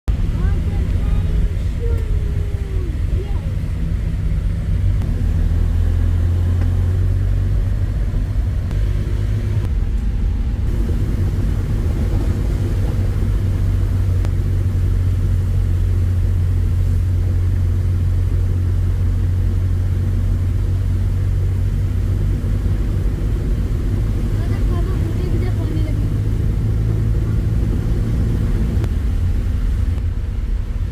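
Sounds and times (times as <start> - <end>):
loud low rumble: 0.1 - 30.9.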